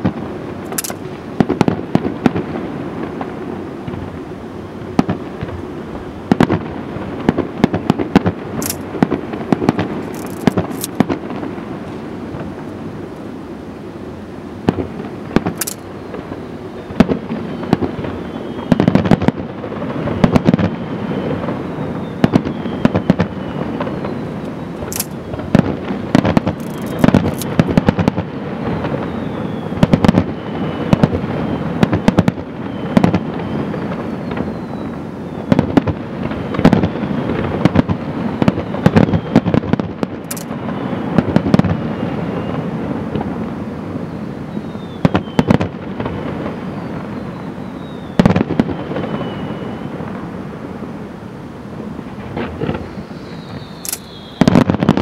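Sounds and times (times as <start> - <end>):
fireworks bursting with sharp bangs: 0.0 - 13.9, 14.6 - 55.0
faint fireworks whistles: 0.0 - 55.0
rumble of fainter fireworks reports: 0.0 - 55.0.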